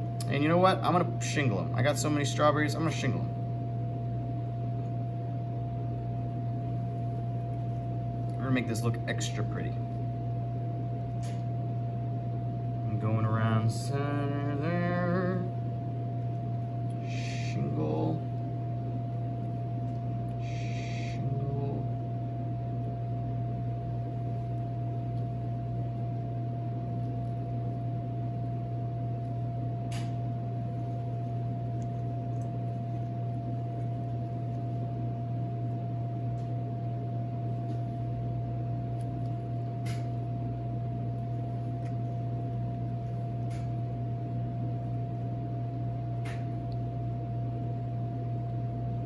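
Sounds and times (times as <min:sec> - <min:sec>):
faint whine: 0:00.0 - 0:49.0
kitchen equipment humming: 0:00.0 - 0:49.0.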